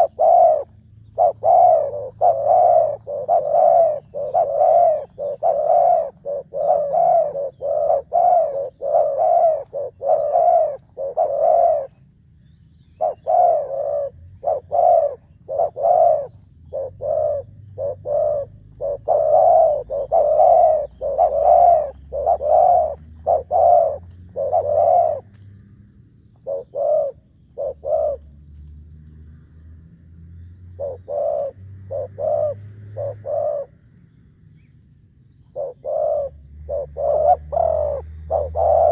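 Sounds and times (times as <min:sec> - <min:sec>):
dove cooing: 0:00.0 - 0:25.5, 0:26.2 - 0:28.4, 0:30.6 - 0:34.0, 0:35.4 - 0:38.9.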